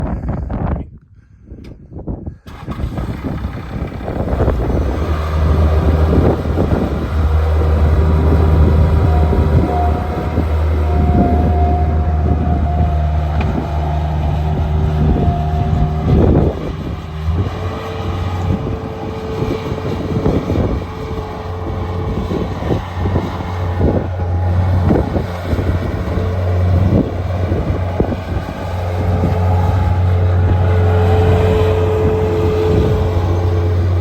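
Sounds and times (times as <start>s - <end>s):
skid steer diesel engine running: 2.5s - 34.0s.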